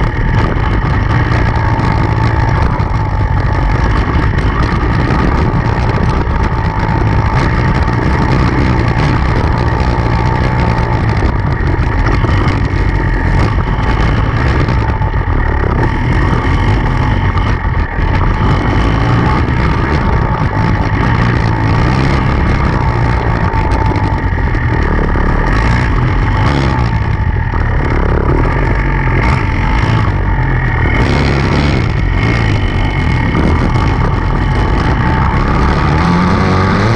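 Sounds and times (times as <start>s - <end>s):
dirt bike engine running: 0.0s - 36.9s.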